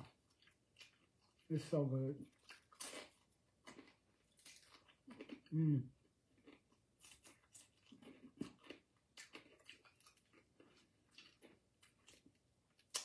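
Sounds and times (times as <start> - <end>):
crunching and chewing: 0.0 - 1.5, 2.2 - 13.0.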